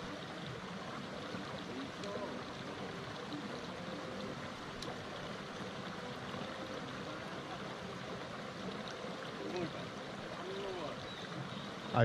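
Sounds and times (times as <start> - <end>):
stream flowing water: 0.0 - 12.0.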